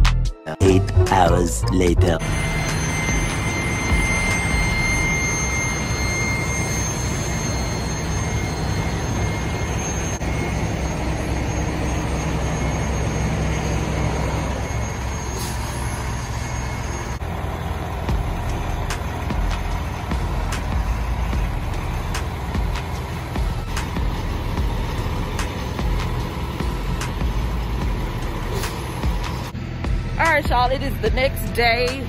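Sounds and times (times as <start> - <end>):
truck diesel engine rumbling: 0.0 - 32.0.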